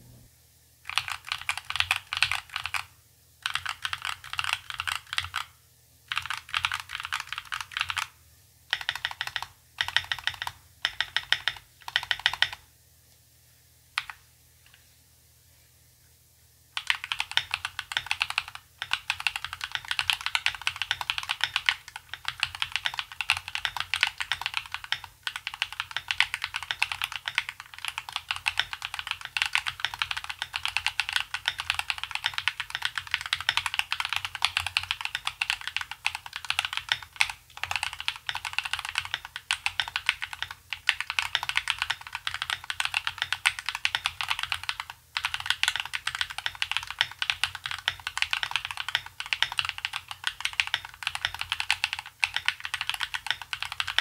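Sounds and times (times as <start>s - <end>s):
fast mechanical keyboard typing: 0.9s - 5.5s, 6.1s - 8.1s, 8.7s - 12.6s, 16.8s - 54.0s.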